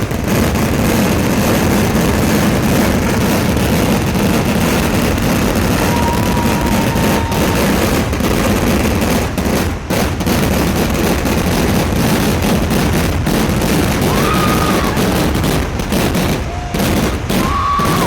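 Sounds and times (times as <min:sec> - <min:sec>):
firecrackers banging rapidly: 0:00.0 - 0:18.0.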